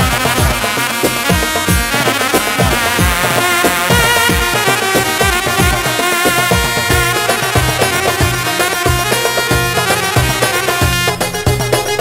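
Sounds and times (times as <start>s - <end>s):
deep drum beat: 0.0s - 12.0s
electronic keyboard melody: 0.0s - 12.0s.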